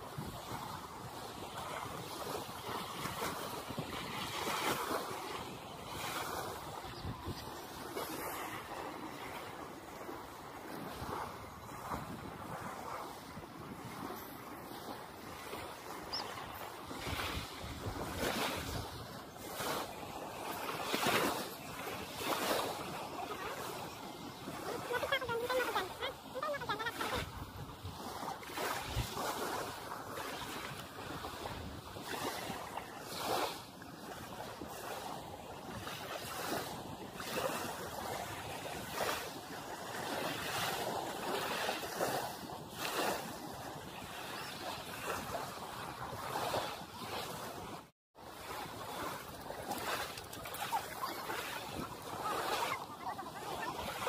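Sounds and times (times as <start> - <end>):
steady water noise: 0.0 - 54.0
sea waves lapping: 0.1 - 54.0.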